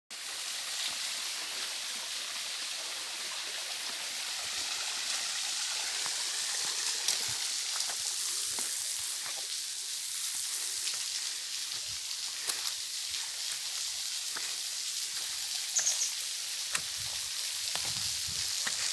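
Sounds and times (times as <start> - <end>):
waterfall hiss: 0.1 - 18.9.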